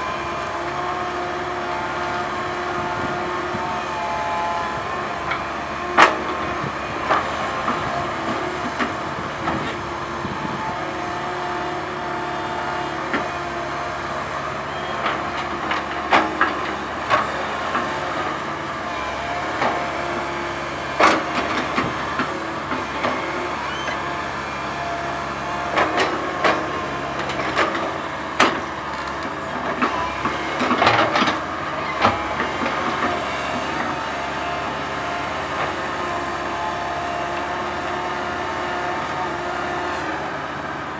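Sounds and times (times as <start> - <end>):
diesel engine running: 0.0 - 40.9
excavator knocks and clanks: 0.0 - 40.9
hydraulic whine: 0.0 - 40.9.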